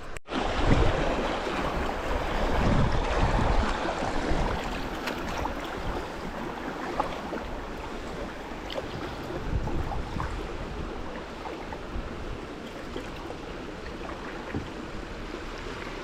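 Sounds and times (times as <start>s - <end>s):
creek water rushing: 0.0s - 16.0s
wind buffeting microphone: 0.0s - 16.0s.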